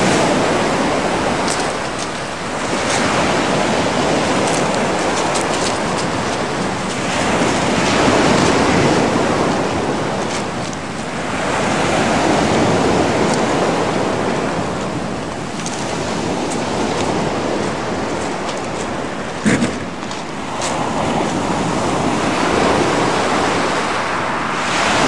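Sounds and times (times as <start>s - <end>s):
sea water splashing: 0.0s - 25.0s
wind on microphone: 0.0s - 25.0s.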